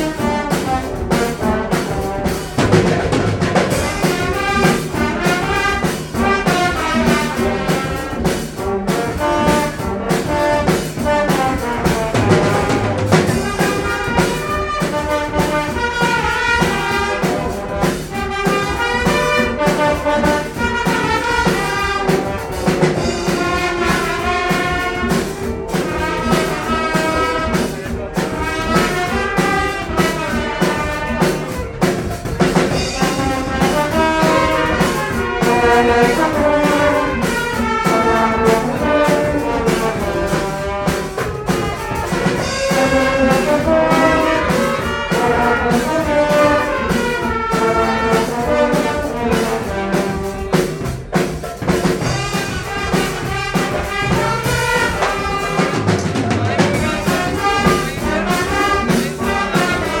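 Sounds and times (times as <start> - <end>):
brass band playing: 0.0 - 60.0
drum kit beat: 0.0 - 60.0.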